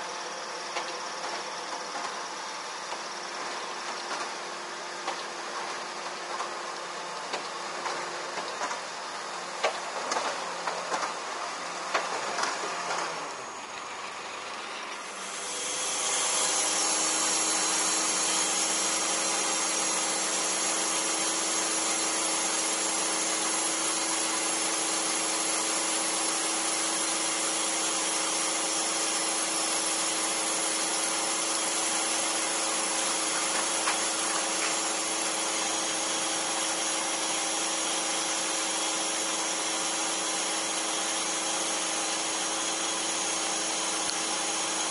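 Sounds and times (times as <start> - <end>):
lift machinery whirring: 0.0 - 44.9.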